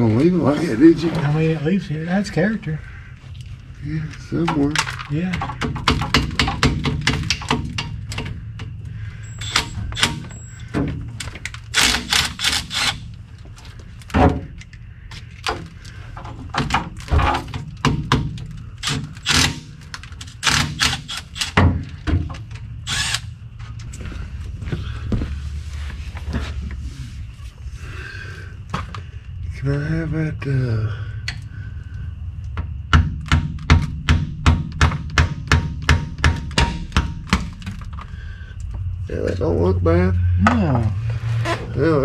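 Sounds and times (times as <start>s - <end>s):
steady low hum: 0.0s - 35.0s, 35.6s - 42.0s.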